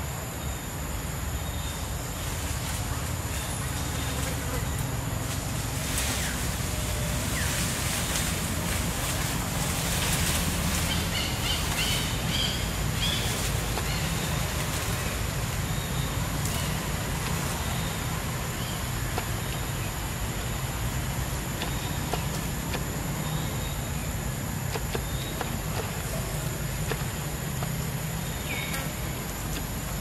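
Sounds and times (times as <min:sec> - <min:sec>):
high hum: 0:00.0 - 0:30.0.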